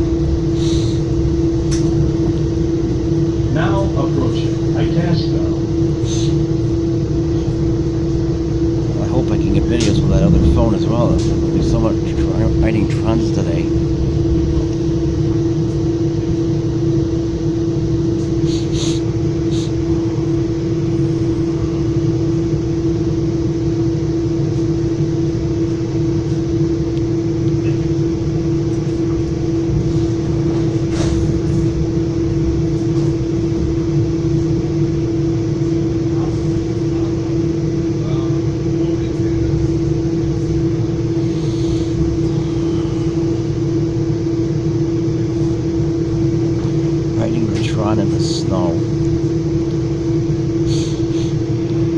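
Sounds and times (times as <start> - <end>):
train car rumble and hum: 0.0 - 51.9.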